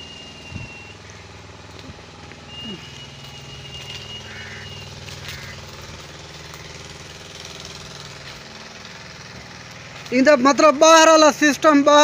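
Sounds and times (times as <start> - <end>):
engine chugging: 0.0 - 12.0.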